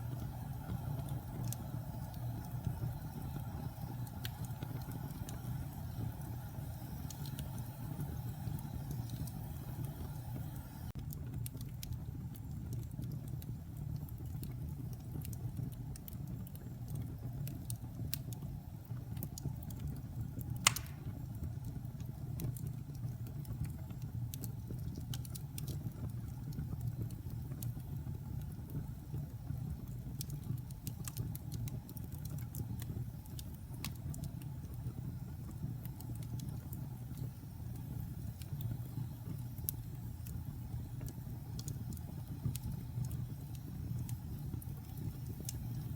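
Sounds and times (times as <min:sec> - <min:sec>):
fire popping: 0:00.0 - 0:45.9
wood fire crackling: 0:00.0 - 0:45.9.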